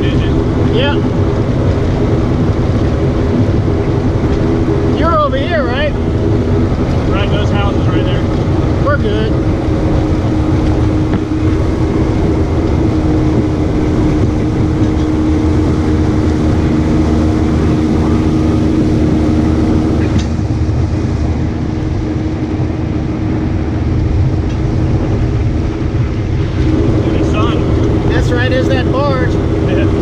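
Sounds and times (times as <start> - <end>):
low rush of noise: 0.0 - 30.0
motorboat engine drone: 0.0 - 30.0.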